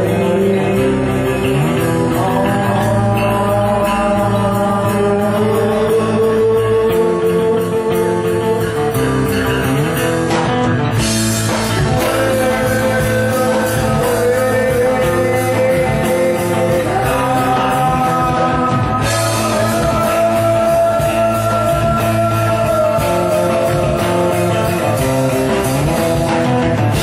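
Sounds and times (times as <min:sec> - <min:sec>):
bass guitar: 0:00.0 - 0:27.0
drums: 0:00.0 - 0:27.0
electric guitars: 0:00.0 - 0:27.0.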